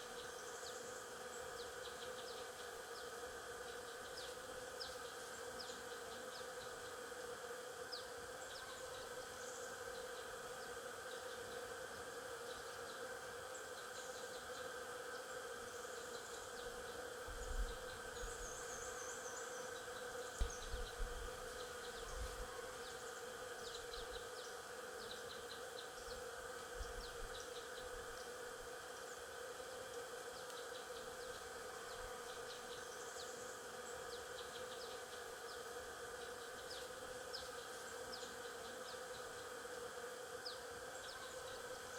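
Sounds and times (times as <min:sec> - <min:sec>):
bees buzzing: 0:02.5 - 0:41.9.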